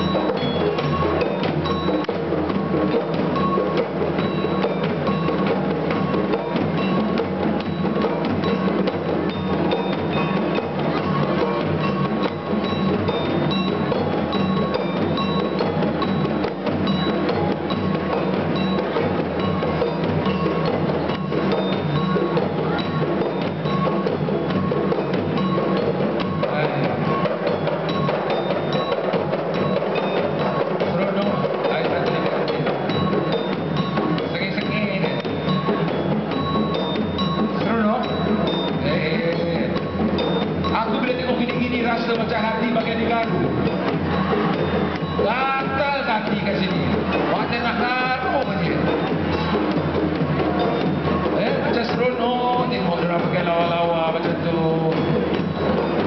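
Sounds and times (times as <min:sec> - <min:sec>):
faint high ringing tones: 0:00.0 - 0:53.1
frame drums beaten by hand: 0:00.0 - 0:56.0.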